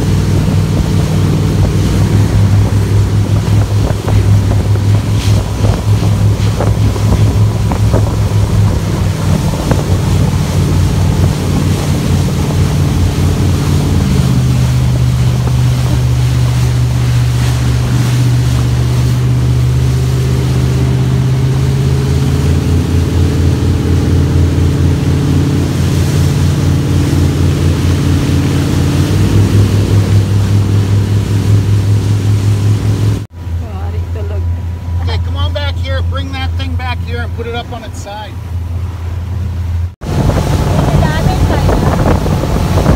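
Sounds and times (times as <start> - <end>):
wind buffeting microphone: 0.0 - 33.3, 38.7 - 42.9
motorboat engine running: 0.0 - 42.9.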